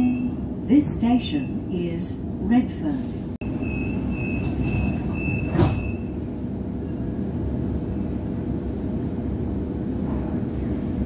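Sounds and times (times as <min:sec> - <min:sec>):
train carriage rumble: 0:00.0 - 0:11.0
train passing alongside: 0:00.0 - 0:11.0.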